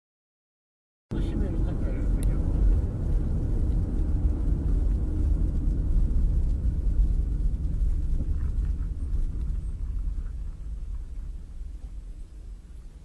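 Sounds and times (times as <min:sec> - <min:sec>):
car engine and tyre rumble: 0:01.1 - 0:13.0.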